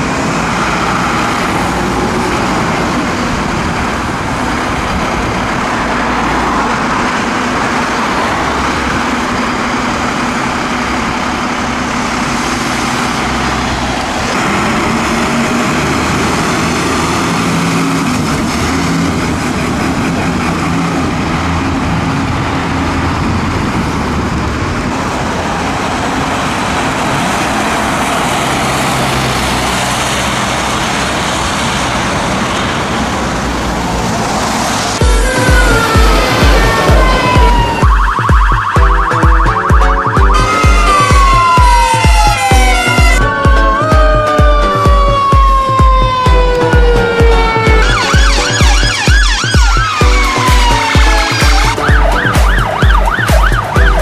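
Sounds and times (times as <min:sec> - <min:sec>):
heavy vehicle engine: 0:00.0 - 0:54.0
motor vehicle engines running: 0:00.0 - 0:54.0.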